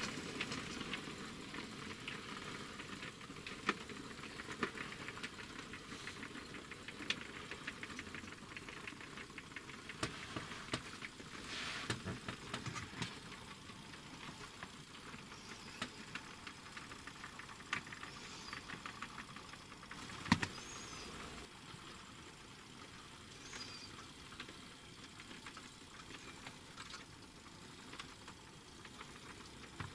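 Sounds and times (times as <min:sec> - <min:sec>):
light running rattle: 0:00.0 - 0:29.9
model train wheels clicking on rails: 0:00.0 - 0:29.9.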